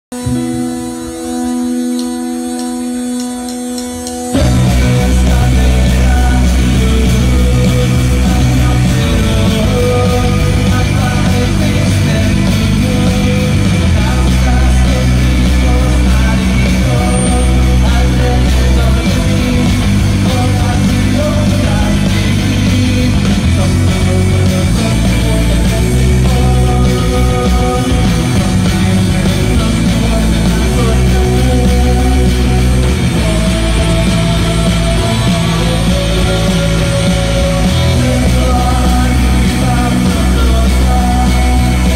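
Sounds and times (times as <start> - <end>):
bass guitar: 0.1 - 41.9
drums: 0.1 - 41.9
electric guitars: 0.1 - 41.9
held keyboard chord: 0.1 - 41.9
live rock band playing: 0.1 - 41.9.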